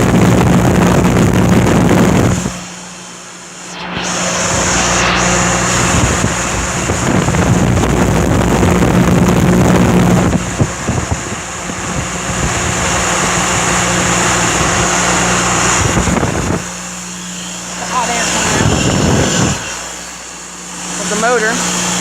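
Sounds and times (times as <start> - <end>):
wind buffeting microphone: 0.0 - 2.9, 3.8 - 20.9
electric motor hum: 0.0 - 22.0
rush of air from fan blades: 0.0 - 22.0.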